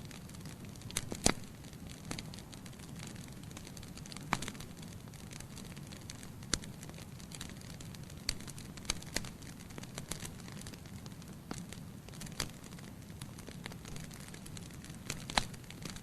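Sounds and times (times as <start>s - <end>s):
logs burning with crackles: 0.0s - 16.0s.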